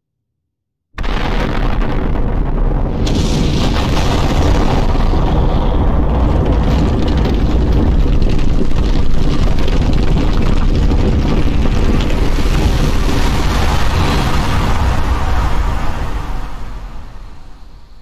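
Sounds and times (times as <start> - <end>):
deep explosion rumble: 1.0 - 17.6.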